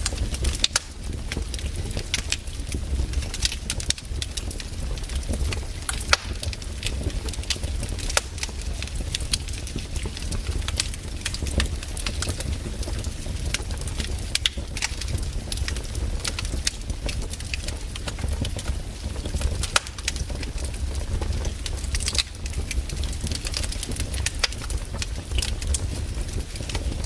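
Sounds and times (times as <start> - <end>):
campfire wood crackling: 0.0 - 27.0
low fire rumble: 0.0 - 27.0.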